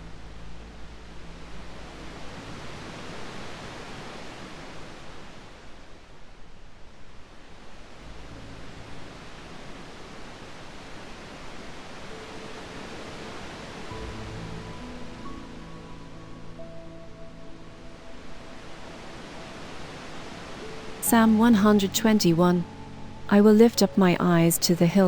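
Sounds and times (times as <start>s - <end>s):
soft sustained music tones: 0.0s - 25.0s
ocean surf: 2.1s - 6.3s, 7.2s - 24.8s.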